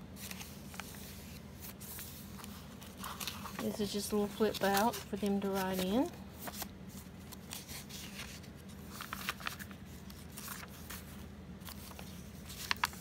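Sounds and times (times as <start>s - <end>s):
paper pages rustling: 0.1s - 13.0s.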